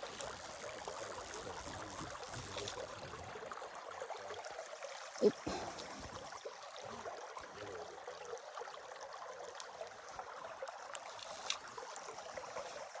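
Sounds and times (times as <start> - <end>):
stream running: 0.0 - 13.0.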